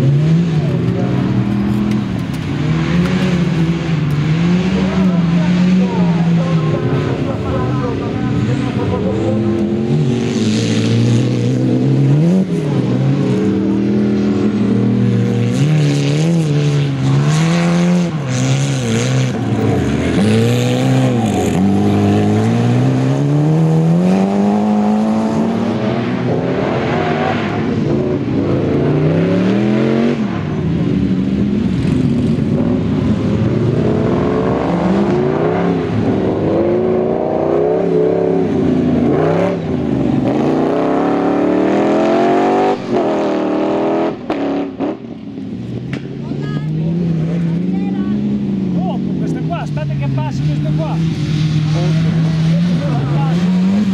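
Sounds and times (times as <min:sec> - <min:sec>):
race car engines revving: 0:00.0 - 0:53.9.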